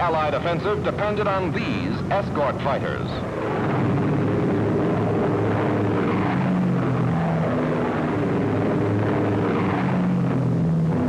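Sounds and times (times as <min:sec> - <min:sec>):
propeller planes engine drone: 0:00.0 - 0:11.0.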